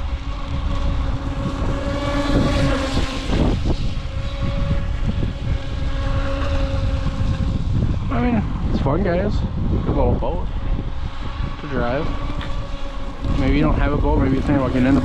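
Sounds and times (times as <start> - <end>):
rc boat motor whining: 0.0 - 15.0
wind buffeting microphone: 0.0 - 15.0.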